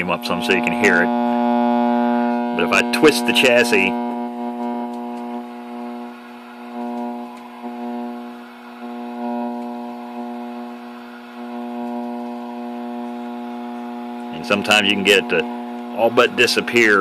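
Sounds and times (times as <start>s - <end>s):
loud electrical hum: 0.0s - 17.0s.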